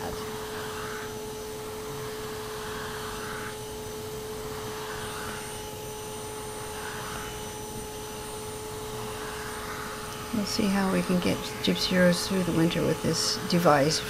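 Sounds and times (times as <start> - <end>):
vacuum cleaner humming: 0.0 - 14.0
vacuum hiss sucking fur: 0.0 - 14.0.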